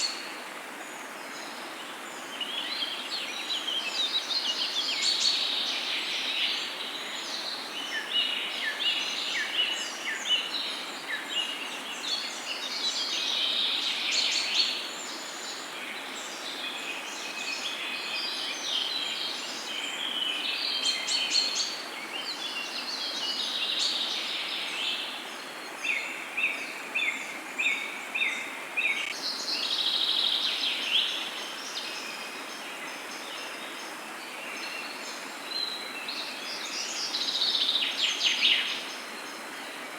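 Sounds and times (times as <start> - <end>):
songbirds singing and calling: 0.0 - 39.9
steady background hiss: 0.0 - 39.9.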